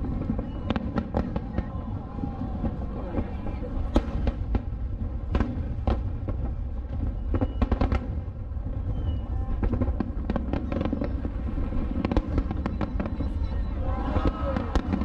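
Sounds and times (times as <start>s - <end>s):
fireworks bursting: 0.0s - 15.0s
low rumble: 0.0s - 15.0s.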